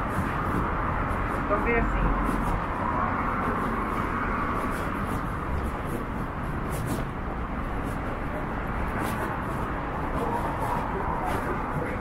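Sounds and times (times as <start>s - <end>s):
traffic noise: 0.0s - 12.0s.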